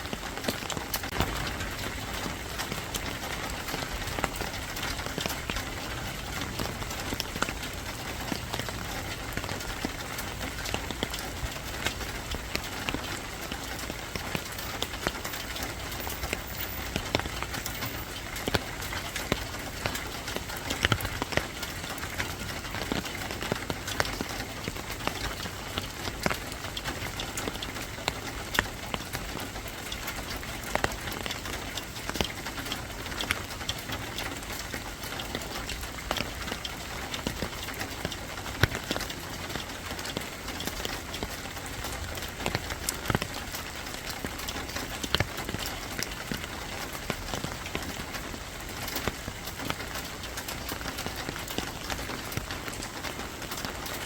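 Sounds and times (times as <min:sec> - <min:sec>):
rain tapping on a hard surface: 0:00.0 - 0:54.0.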